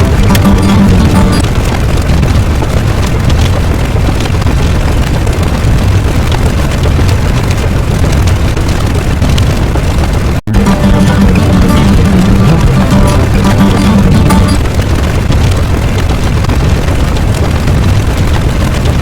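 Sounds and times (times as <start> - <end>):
explosion rumble: 0.0 - 19.0.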